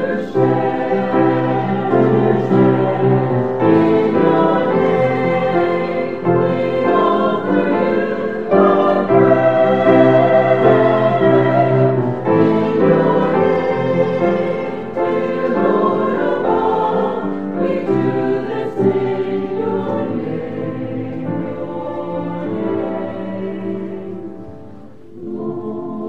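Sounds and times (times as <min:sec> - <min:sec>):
choir singing sacred music: 0:00.0 - 0:26.0.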